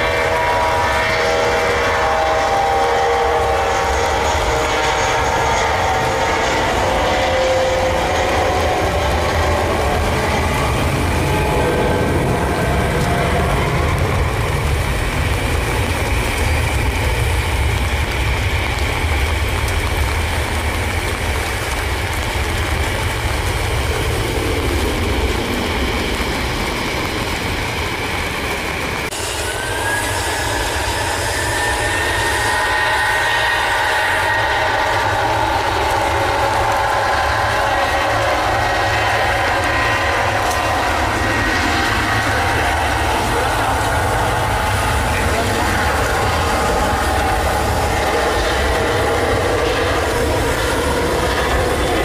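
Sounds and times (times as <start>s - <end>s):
jet engines rumbling: 0.0s - 52.0s
rising whine: 0.0s - 52.0s
tyres through spray on wet runway: 0.0s - 52.0s.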